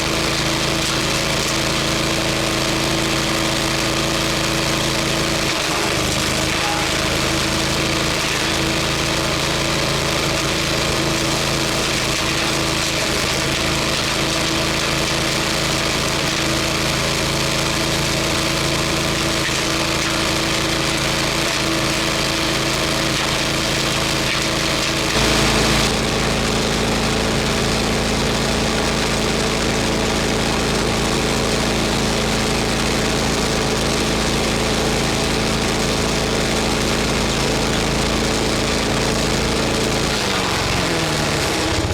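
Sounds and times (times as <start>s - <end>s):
wood chipper engine running: 0.0s - 41.9s.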